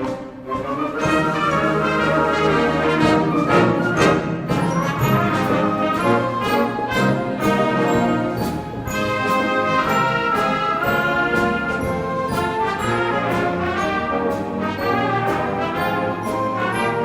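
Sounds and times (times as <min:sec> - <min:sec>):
brass melody: 0:00.0 - 0:17.0
percussion strikes: 0:00.0 - 0:17.0
wind band playing: 0:00.0 - 0:17.0.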